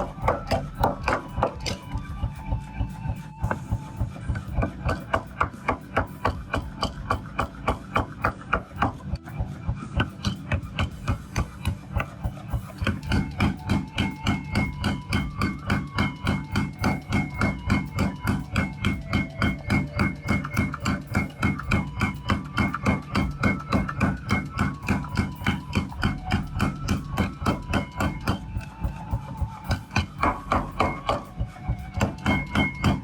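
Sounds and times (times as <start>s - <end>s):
hammer blows on steel: 0.0s - 33.0s.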